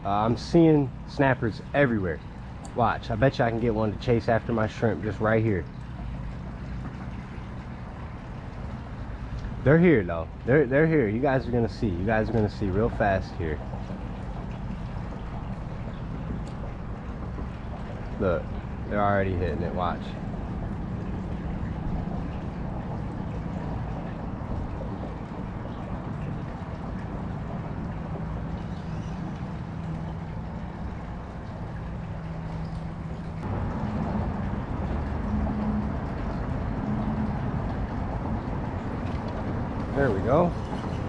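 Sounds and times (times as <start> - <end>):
low motor hum: 0.0 - 41.0.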